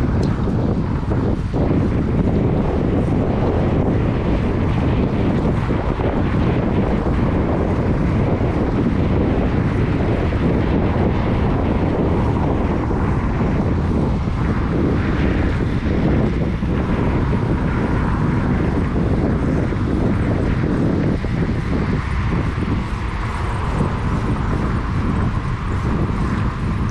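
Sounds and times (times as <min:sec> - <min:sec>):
road noise: 0:00.0 - 0:26.9
wind rush: 0:00.0 - 0:26.9.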